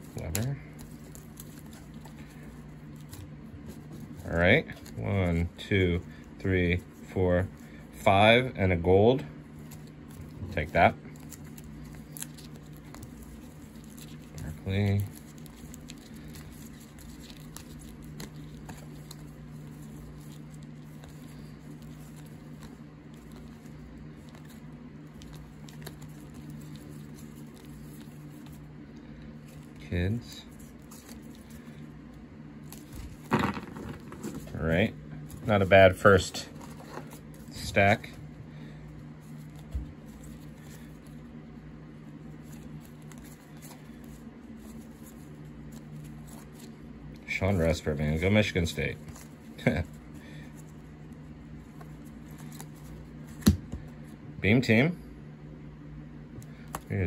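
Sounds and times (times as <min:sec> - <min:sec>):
cards rustling: 0:00.0 - 0:54.2
steady low hum: 0:00.0 - 0:57.0.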